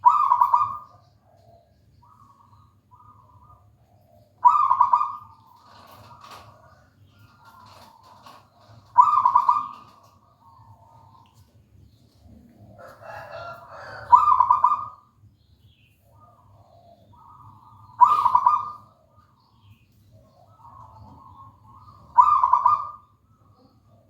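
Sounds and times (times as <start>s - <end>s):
dove cooing: 0.0s - 15.3s, 16.0s - 24.0s.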